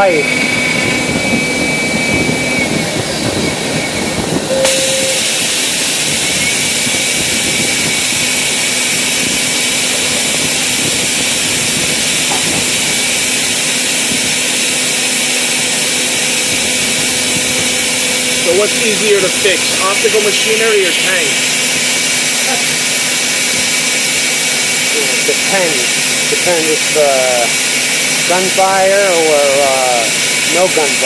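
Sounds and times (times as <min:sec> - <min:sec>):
loud steady hiss: 0:00.0 - 0:31.0
machinery hum with tones: 0:00.0 - 0:31.0.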